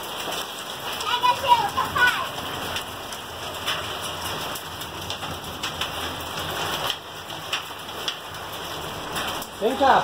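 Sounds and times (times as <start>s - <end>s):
hail and rain on a roof: 0.0s - 10.0s
hailstones striking panels: 0.0s - 10.0s.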